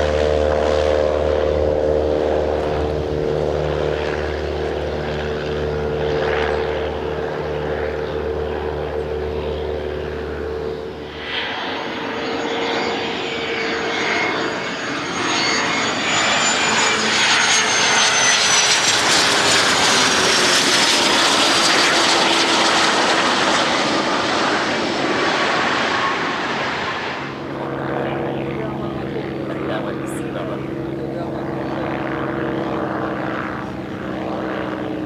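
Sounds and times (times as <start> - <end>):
high jet whine: 0.0 - 35.0
jet engines roaring past: 0.0 - 35.0.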